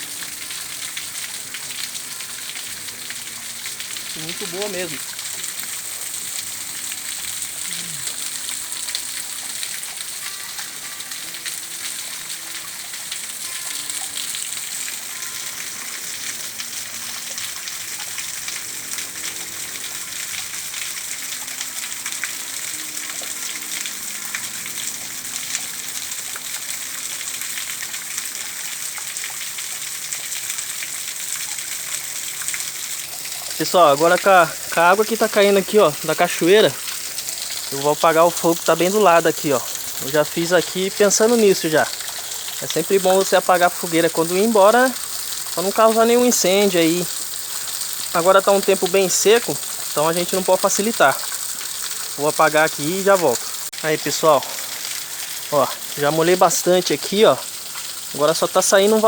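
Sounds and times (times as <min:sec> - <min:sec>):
waterfall splashing: 0:00.0 - 0:59.0.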